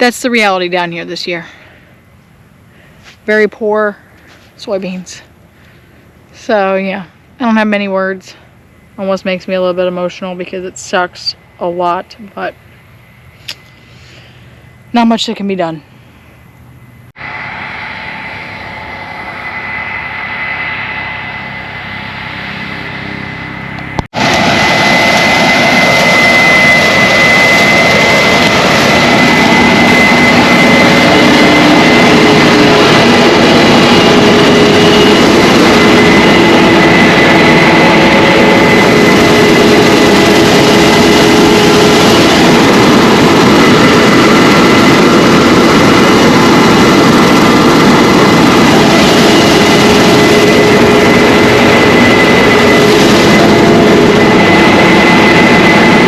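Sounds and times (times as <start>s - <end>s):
diesel engine drone: 0.0s - 56.0s
high machine whine: 0.0s - 56.0s.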